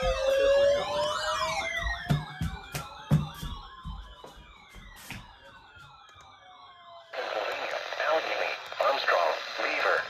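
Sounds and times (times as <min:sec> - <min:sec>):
siren warbling: 0:00.0 - 0:10.0
sirens sliding down in pitch: 0:00.0 - 0:10.0.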